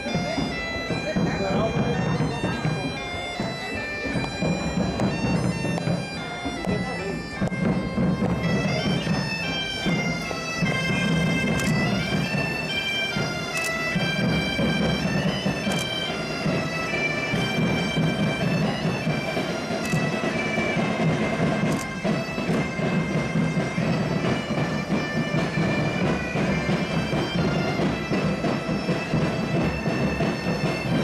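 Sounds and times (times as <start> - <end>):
bagpipe band playing: 0.0 - 31.0
sharp percussion accent: 0.0 - 31.0.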